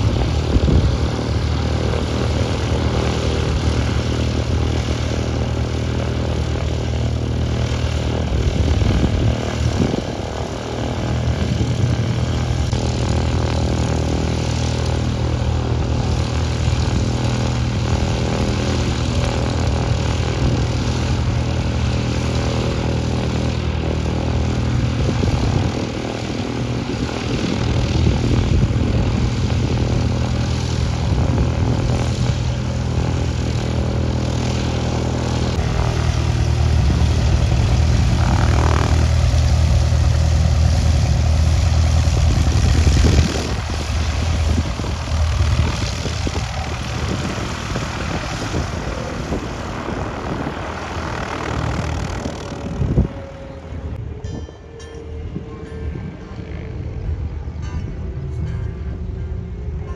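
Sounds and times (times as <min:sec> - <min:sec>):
plane taxiing past: 0:00.0 - 0:59.9
propeller plane engines running: 0:00.0 - 0:59.9.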